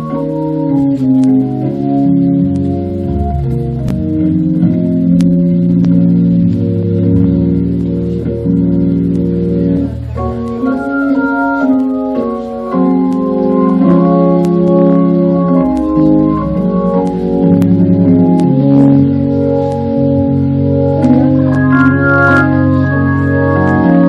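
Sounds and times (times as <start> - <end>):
organ playing chords: 0.0 - 24.0.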